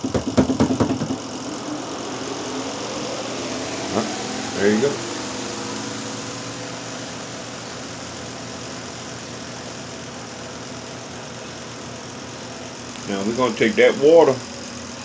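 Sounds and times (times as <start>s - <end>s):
spin dryer motor whirring: 0.0s - 15.0s.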